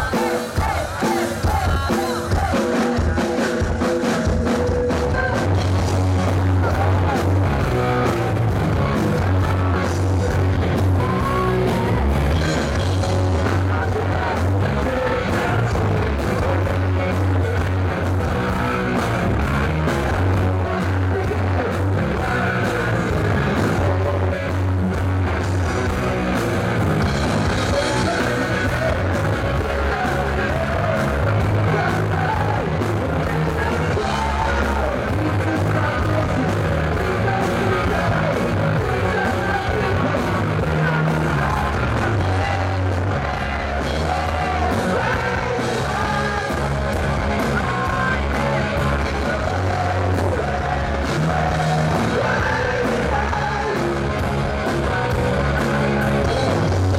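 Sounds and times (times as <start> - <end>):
man singing into microphone: 0.0 - 3.8, 4.6 - 25.1, 27.4 - 56.9
bass guitar: 0.0 - 56.9
drums: 0.0 - 56.9
electric guitar: 0.0 - 56.9.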